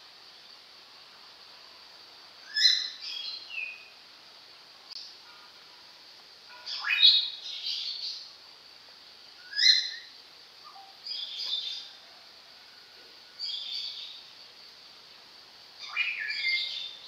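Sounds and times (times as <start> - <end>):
small songbird chirping: 0.1 - 4.1, 6.5 - 12.0, 12.6 - 17.0.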